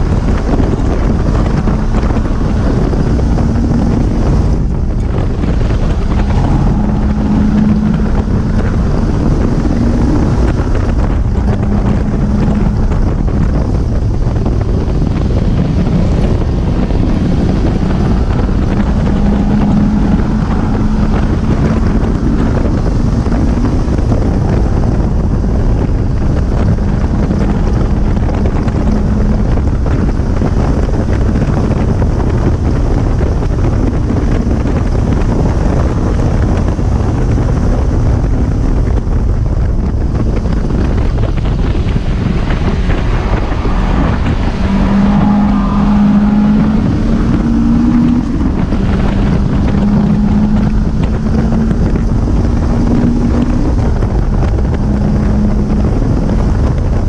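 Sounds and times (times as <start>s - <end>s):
car engine running hard: 0.0s - 57.0s
wind noise on microphone: 0.0s - 57.0s.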